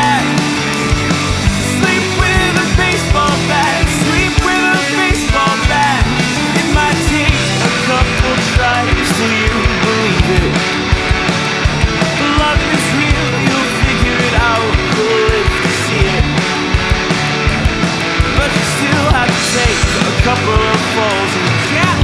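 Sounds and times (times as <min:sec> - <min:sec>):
bass guitar: 0:00.0 - 0:22.0
drum beat: 0:00.0 - 0:22.0
electric guitar: 0:00.0 - 0:22.0.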